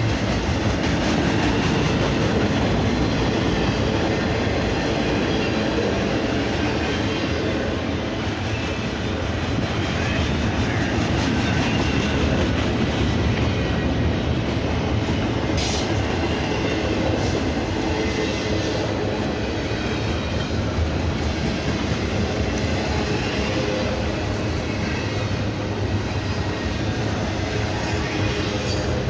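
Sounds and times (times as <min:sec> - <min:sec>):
train wheels running on rails: 0:00.0 - 0:29.0.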